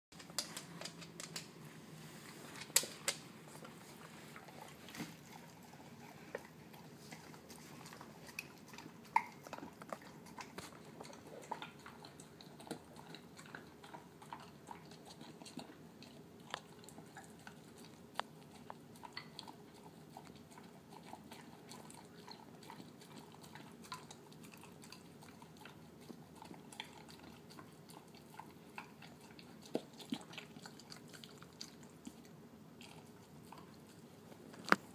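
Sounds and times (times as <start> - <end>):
dog chewing wet food: 2.6 - 34.9.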